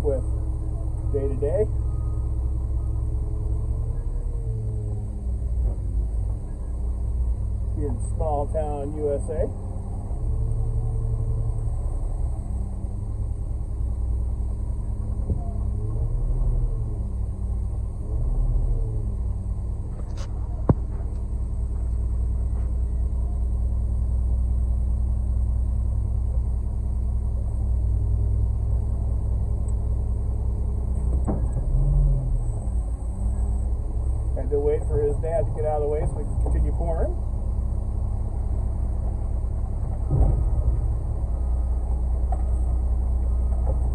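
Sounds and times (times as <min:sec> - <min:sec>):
diesel truck engine rumbling: 0:00.0 - 0:43.9.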